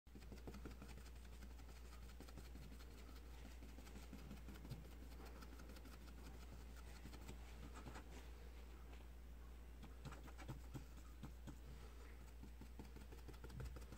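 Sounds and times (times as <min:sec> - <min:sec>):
paintbrush tapping on foam: 0:00.1 - 0:08.0, 0:09.8 - 0:13.9.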